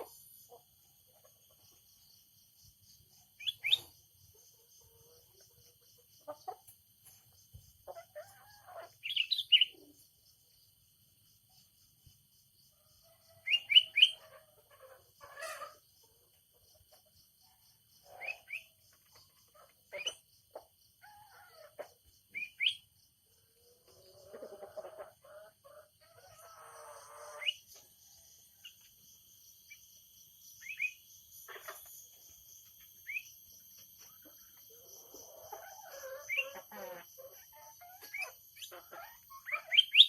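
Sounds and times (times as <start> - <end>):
songbird chirping: 0.0 - 40.0.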